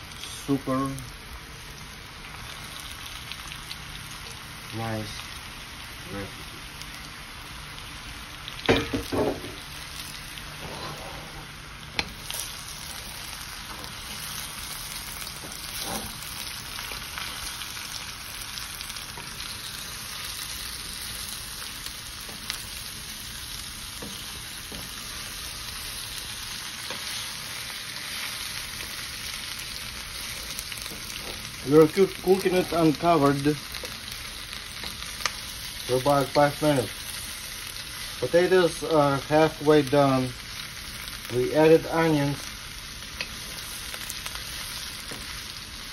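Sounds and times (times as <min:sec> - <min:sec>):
potatoes sizzling in a wok: 0:00.0 - 0:45.9.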